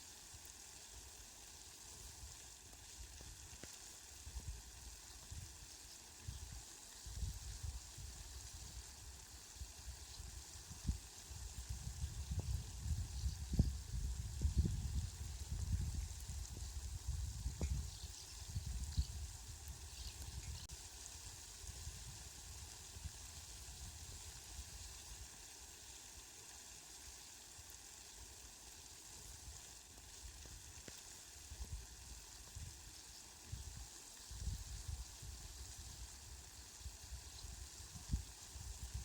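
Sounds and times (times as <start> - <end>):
faint rain hiss: 0.0 - 39.0.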